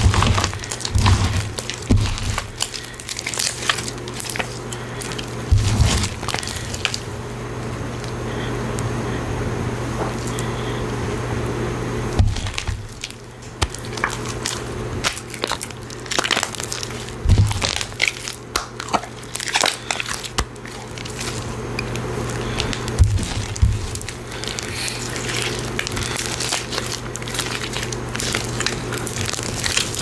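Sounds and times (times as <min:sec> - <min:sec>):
slime crackling and popping: 0:00.0 - 0:07.1, 0:12.2 - 0:30.0
steady low hum: 0:00.0 - 0:30.0.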